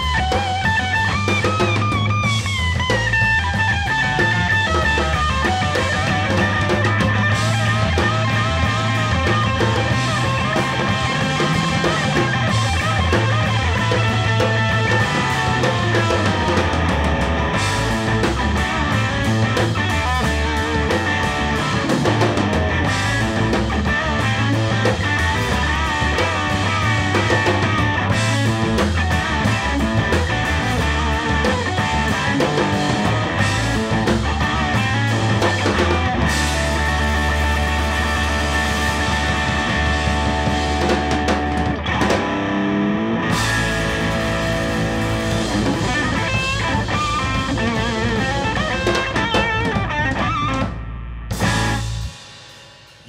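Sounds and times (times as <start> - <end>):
electric guitar playing lead: 0.0 - 53.0
live rock band: 0.0 - 53.0.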